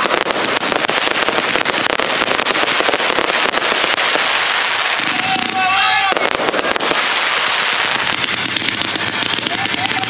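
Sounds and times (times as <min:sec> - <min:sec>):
fireworks crackling: 0:00.0 - 0:10.0.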